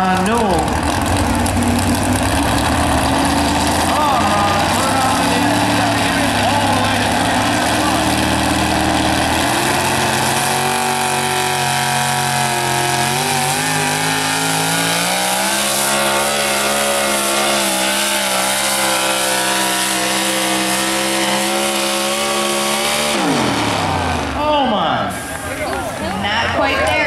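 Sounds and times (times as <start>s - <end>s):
truck engine at high revs: 0.0s - 27.0s.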